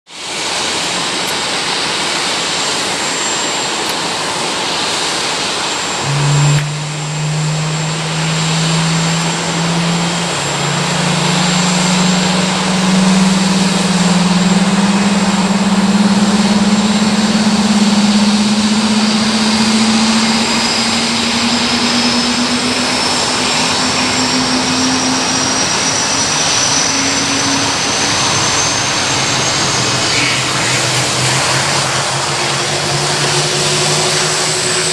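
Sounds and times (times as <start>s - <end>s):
high-pitched engine whine: 0.1s - 34.9s
jet engine spooling hum: 0.1s - 34.9s
jet engine rushing hiss: 0.2s - 34.9s.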